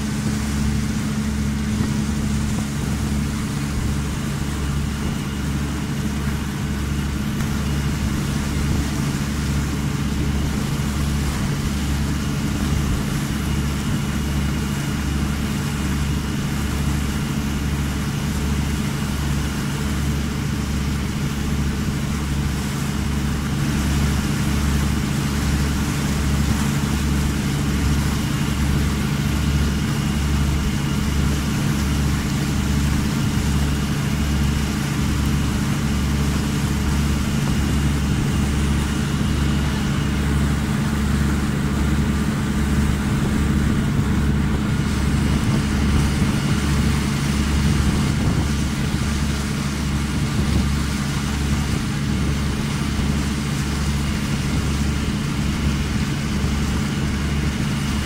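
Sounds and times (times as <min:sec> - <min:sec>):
boat engine running: 0:00.0 - 0:58.0
wind and water hiss: 0:00.0 - 0:58.0.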